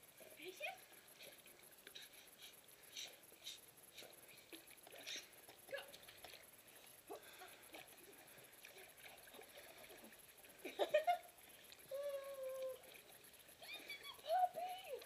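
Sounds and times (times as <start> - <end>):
pool water sloshing and lapping: 0.0 - 15.0.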